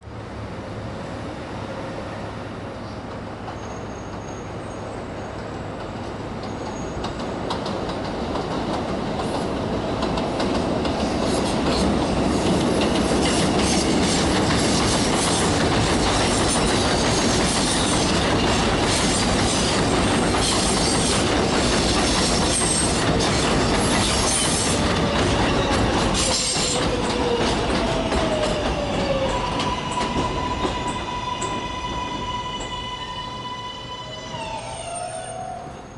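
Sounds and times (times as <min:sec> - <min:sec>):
falling tone of slowing train: 0:00.0 - 0:35.9
train wheels clattering and squealing: 0:02.8 - 0:35.9.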